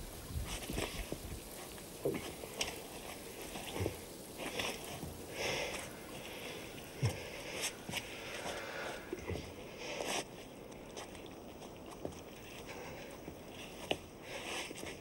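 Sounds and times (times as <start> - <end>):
soft breaths: 0.4 - 15.0.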